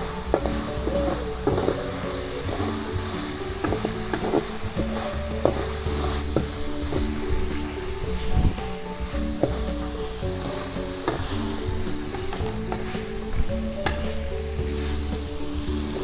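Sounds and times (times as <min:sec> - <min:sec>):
oil sizzling in a wok: 0:00.0 - 0:16.0
soft background music: 0:00.0 - 0:16.0.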